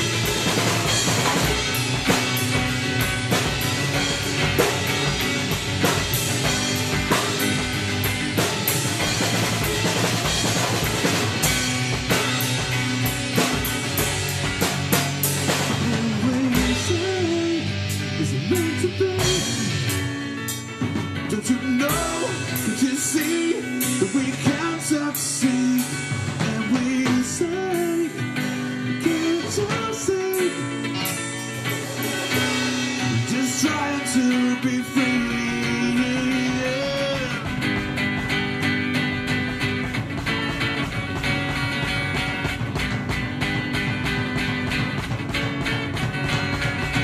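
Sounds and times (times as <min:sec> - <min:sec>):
rock band playing: 0:00.0 - 0:47.0.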